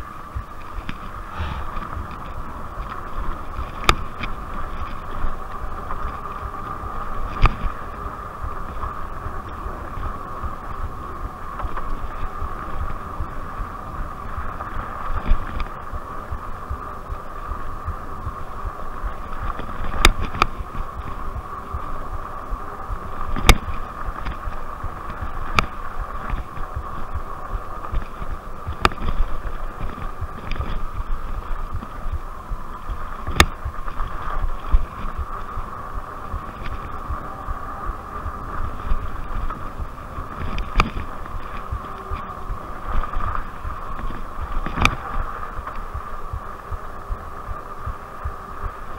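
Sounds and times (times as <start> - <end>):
tyres rumbling on dirt trail: 0.0 - 48.9
wind on microphone: 0.0 - 48.9.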